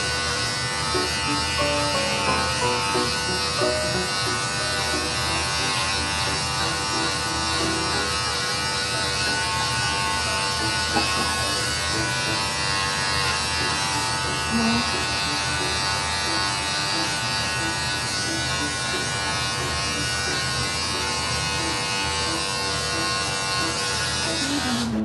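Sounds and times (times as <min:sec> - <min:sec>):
electric hair clippers humming: 0:00.0 - 0:25.0.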